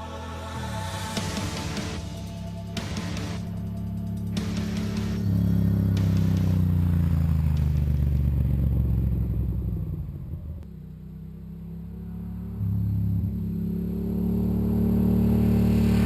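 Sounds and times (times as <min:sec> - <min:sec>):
motorcycle engine revving: 0:01.0 - 0:16.0.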